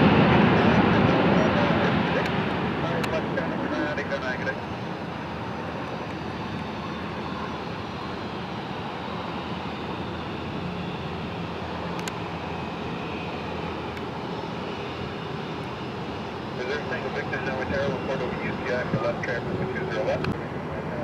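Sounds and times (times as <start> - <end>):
aircraft engine rumble: 0.0 - 21.0.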